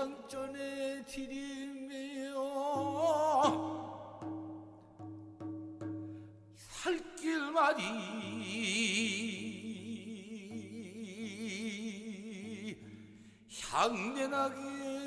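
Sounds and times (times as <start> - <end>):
man singing with vibrato: 0.0 - 4.8, 6.6 - 15.0.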